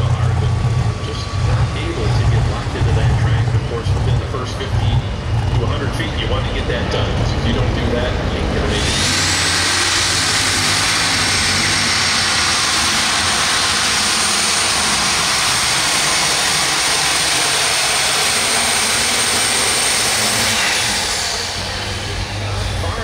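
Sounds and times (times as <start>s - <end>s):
tractor engine howling: 0.0s - 23.0s
turbocharger whine: 0.0s - 23.0s.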